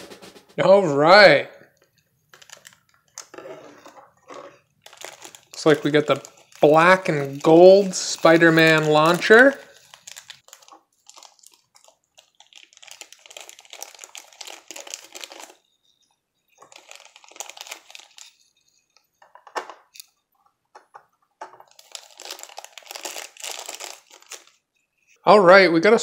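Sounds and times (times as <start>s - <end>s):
plastic bag crinkling: 2.1s - 20.1s, 21.4s - 24.7s.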